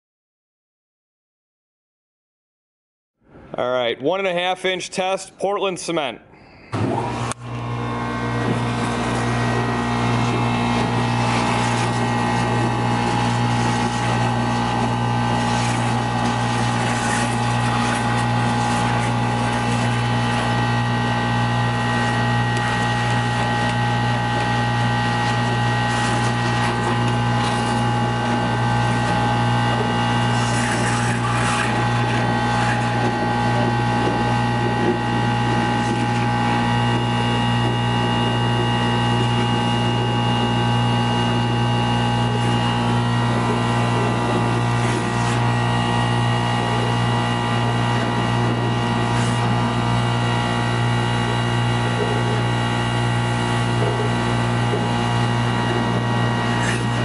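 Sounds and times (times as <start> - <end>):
industrial vacuum humming: 6.4 - 57.0
vacuum wand gulping powder: 8.6 - 57.0.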